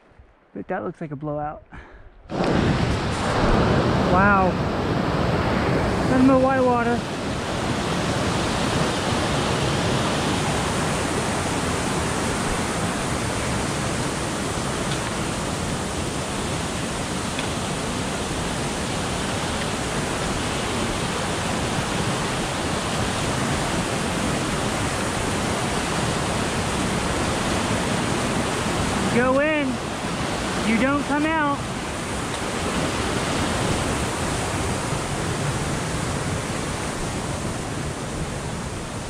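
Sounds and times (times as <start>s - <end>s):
creek rushing over rocks: 2.3s - 39.0s.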